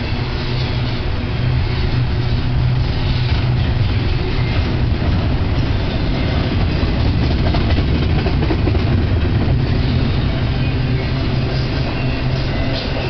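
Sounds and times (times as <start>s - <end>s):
steel train wheels rumbling on rail: 0.0s - 13.0s.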